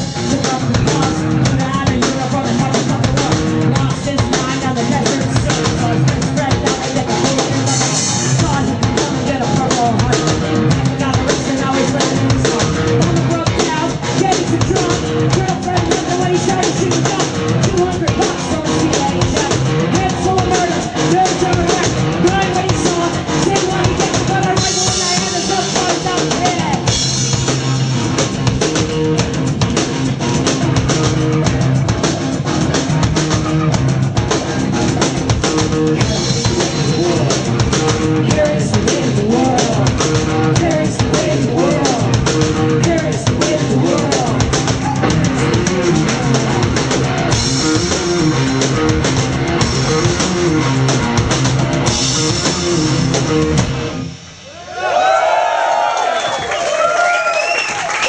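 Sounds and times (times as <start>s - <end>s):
live rock band playing: 0.0s - 54.5s.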